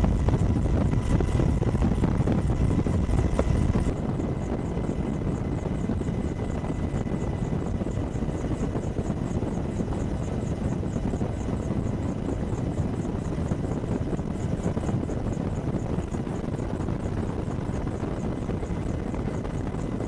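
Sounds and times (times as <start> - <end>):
helicopter rotor and engines: 0.0 - 20.0.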